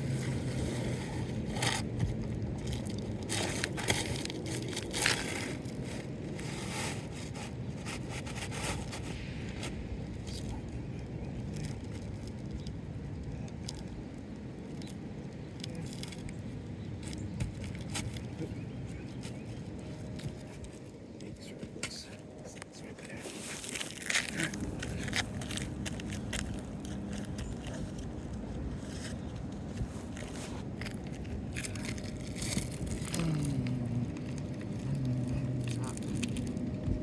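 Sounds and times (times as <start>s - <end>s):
low background noise: 0.0s - 37.0s.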